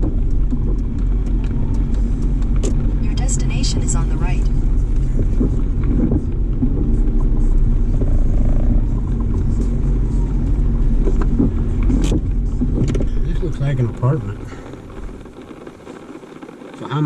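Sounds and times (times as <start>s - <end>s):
car driving rumble in cabin: 0.0s - 17.0s.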